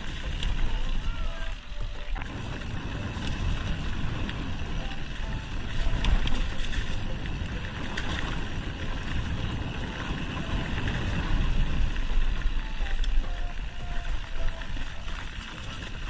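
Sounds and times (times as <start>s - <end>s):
bike rattling over bumps: 0.0s - 16.0s
bike tyre noise: 0.0s - 16.0s
wind rumble on microphone: 0.0s - 16.0s.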